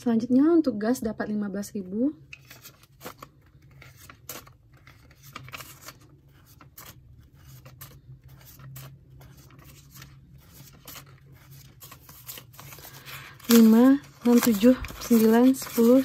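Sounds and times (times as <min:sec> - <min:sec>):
paper banknotes rustling: 0:02.4 - 0:16.0.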